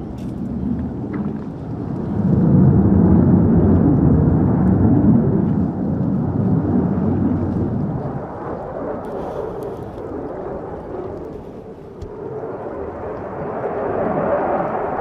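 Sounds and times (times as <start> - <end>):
distant jet aircraft roar: 0.0 - 15.0.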